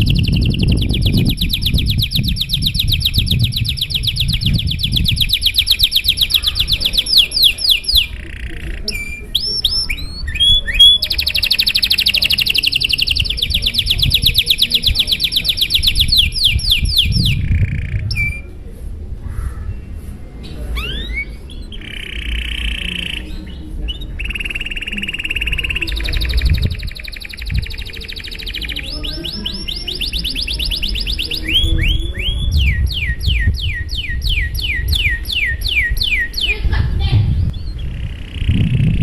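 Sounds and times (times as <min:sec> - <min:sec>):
canary singing trills: 0:00.0 - 0:18.5, 0:20.4 - 0:39.0.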